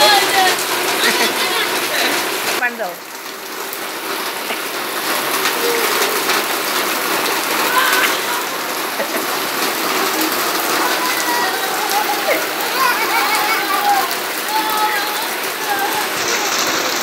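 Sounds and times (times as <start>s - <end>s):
rain falling on puddles: 0.0s - 17.0s.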